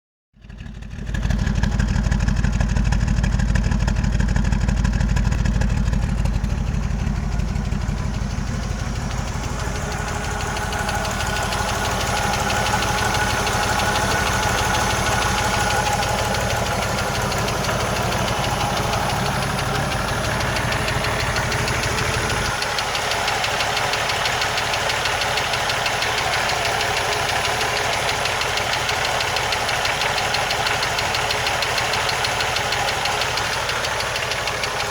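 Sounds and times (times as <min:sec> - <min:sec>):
engine idling: 0:00.4 - 0:34.9.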